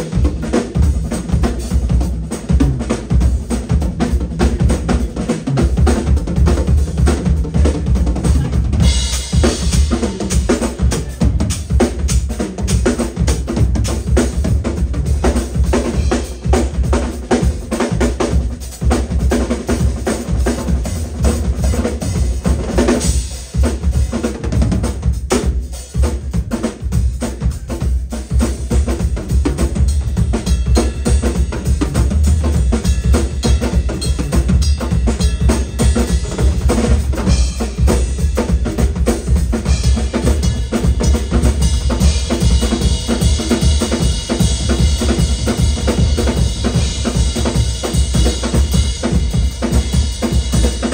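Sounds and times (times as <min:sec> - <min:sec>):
drum kits playing together: 0:00.0 - 0:50.9.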